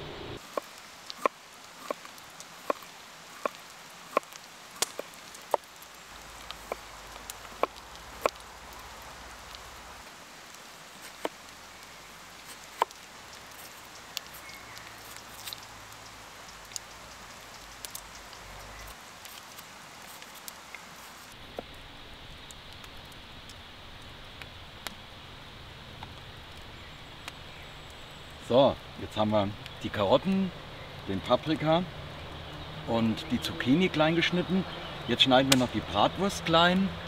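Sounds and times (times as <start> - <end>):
food frying in oil: 0.4 - 30.0.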